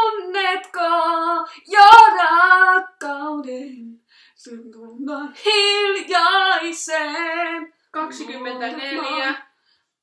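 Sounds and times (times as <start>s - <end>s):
woman singing a cappella: 0.0s - 9.5s.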